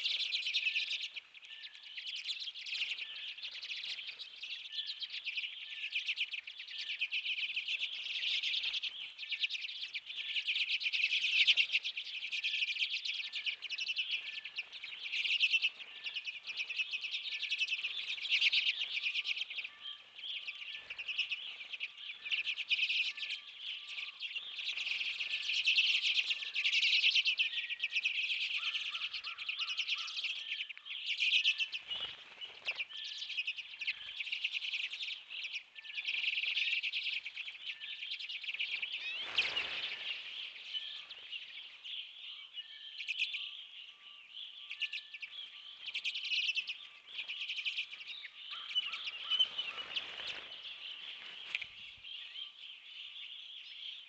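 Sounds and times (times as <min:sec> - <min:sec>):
flock of birds twittering: 0:00.0 - 0:54.0.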